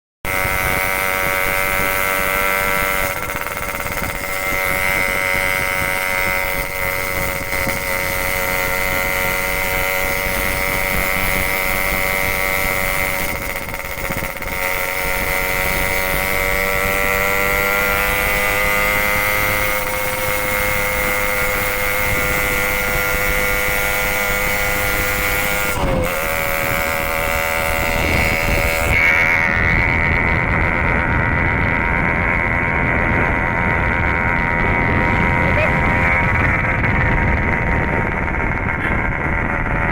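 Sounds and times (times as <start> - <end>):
motorcycle engine running: 0.2 - 39.9.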